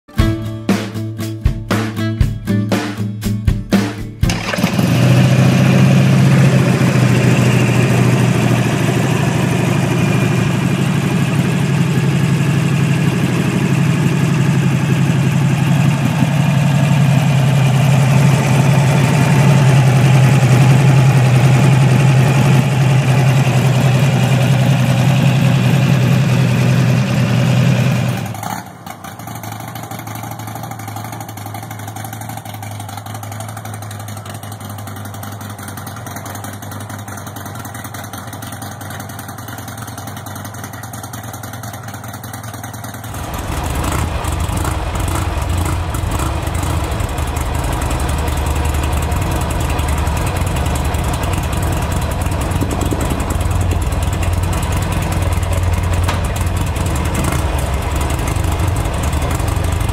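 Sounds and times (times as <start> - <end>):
motorcycle engine idling: 4.2 - 59.9.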